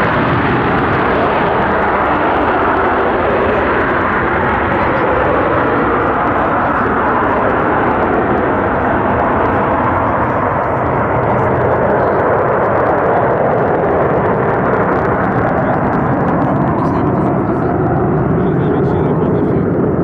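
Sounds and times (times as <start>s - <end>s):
jet engine roaring: 0.0s - 20.0s.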